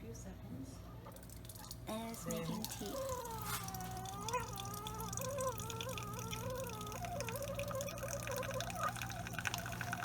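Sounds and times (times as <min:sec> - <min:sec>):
brewer pump humming and whining: 0:00.4 - 0:10.0
water dispensing into cup: 0:01.1 - 0:10.0.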